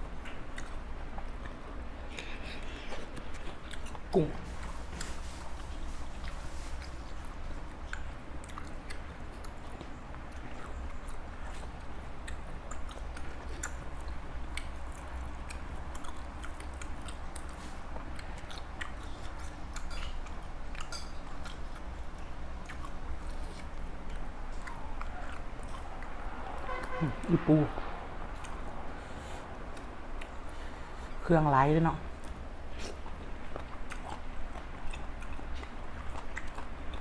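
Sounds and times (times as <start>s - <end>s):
person chewing crunchy food: 0.0s - 27.0s, 32.1s - 37.0s
steady low hum: 0.0s - 37.0s.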